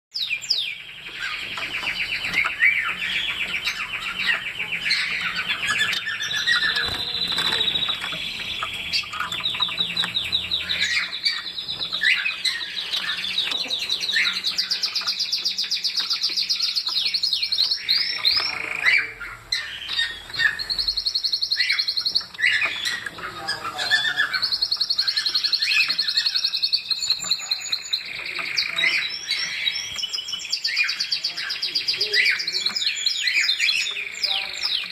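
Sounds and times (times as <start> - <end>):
finch chirping and singing: 0.1 - 34.9.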